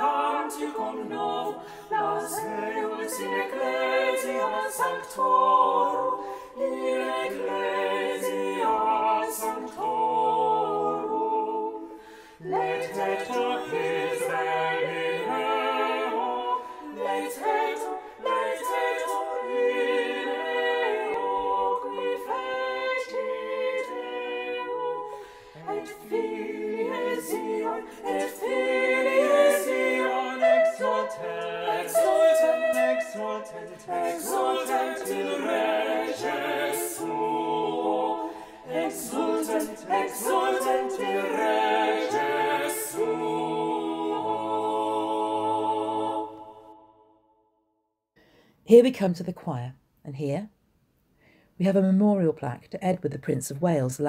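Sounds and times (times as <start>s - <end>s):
mixed choir singing in harmony: 0.0s - 47.2s.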